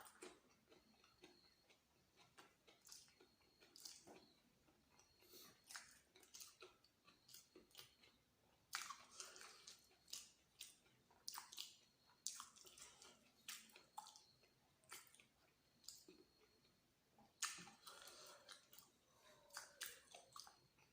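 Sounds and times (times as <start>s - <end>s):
mouth chewing wetly: 0.0s - 20.9s.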